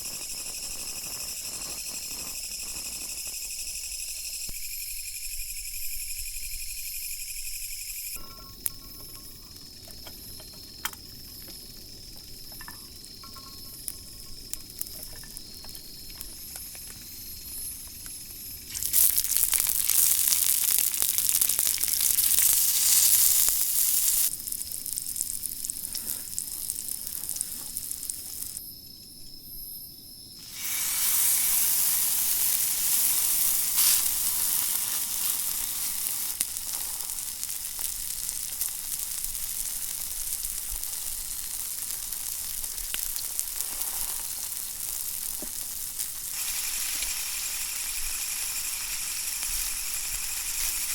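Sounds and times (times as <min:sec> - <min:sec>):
crickets chirping: 0:00.0 - 0:50.9
sizzling: 0:00.0 - 0:50.9.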